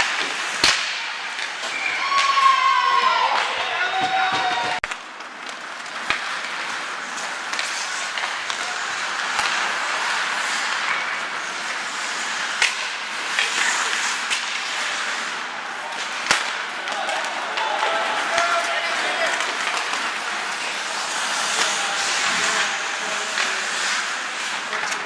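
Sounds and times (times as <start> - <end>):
hockey sticks cracking on puck: 0.0 - 25.0
skates scraping ice: 0.0 - 25.0.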